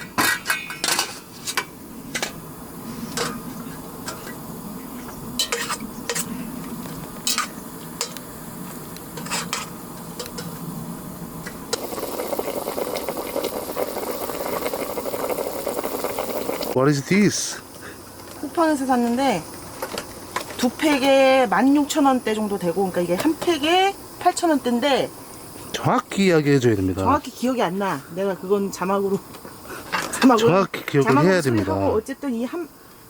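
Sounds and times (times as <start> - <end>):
steady cooking noise: 0.0 - 33.0.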